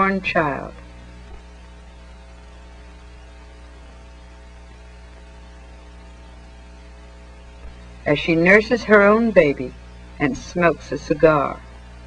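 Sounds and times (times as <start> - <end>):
electrical hum: 0.0 - 12.0
soundtrack hiss: 0.0 - 12.0.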